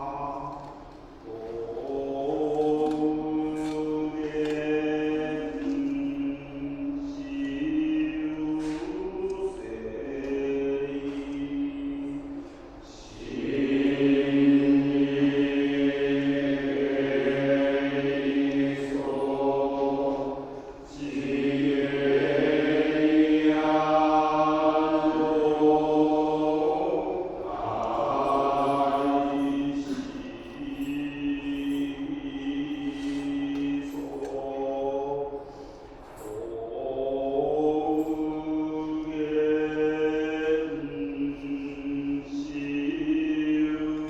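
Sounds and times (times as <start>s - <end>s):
monks chanting: 0.0s - 44.0s.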